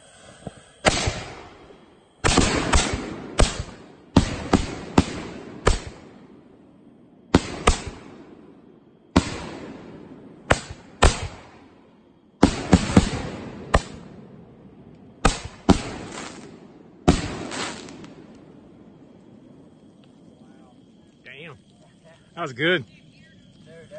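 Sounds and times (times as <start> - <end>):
firework bangs: 0.8 - 6.7, 7.3 - 23.9.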